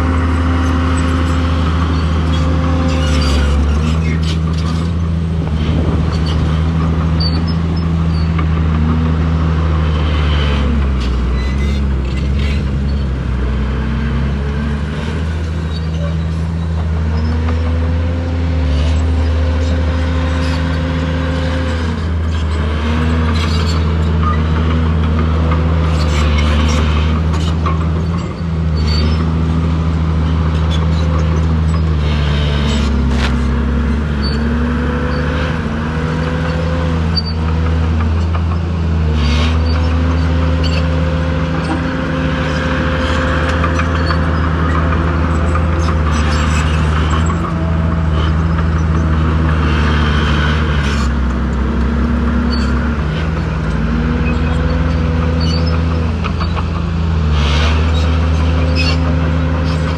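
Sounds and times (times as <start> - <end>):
diesel engine revving under load: 0.0 - 59.9.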